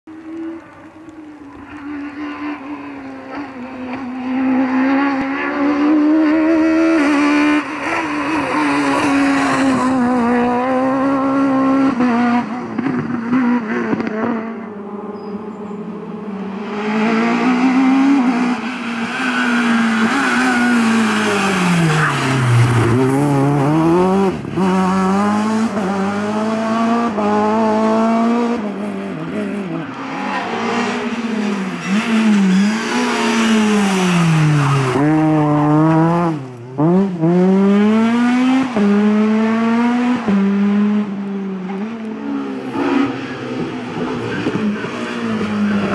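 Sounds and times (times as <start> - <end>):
rally car engines revving: 0.2 - 45.9.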